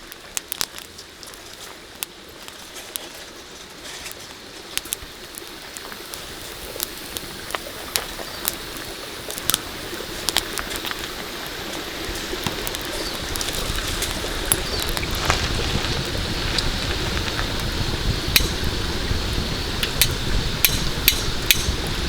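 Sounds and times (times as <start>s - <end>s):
sharp ticks and pops: 0.0s - 22.0s
steady rain: 0.0s - 22.0s.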